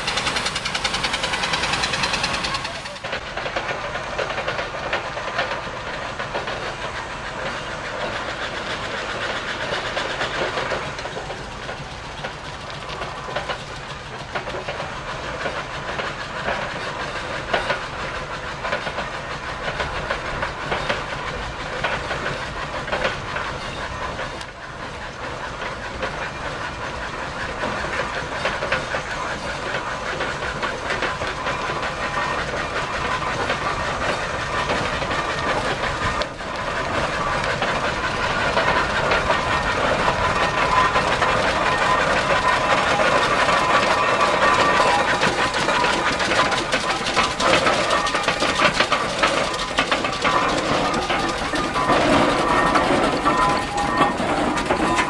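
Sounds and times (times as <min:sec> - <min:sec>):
steam engine chuffing and hissing: 0:00.0 - 0:55.0.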